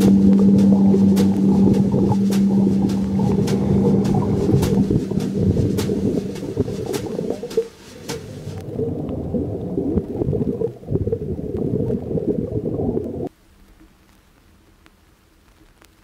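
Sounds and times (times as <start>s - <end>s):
underwater exhaust bubbles: 0.0s - 13.3s
faint hiss: 0.0s - 16.0s.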